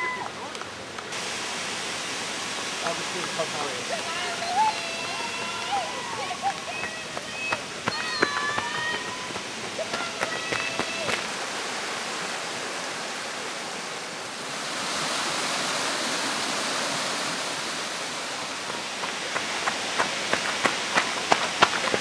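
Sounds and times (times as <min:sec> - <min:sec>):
fast-flowing stream rushing: 0:00.0 - 0:22.0.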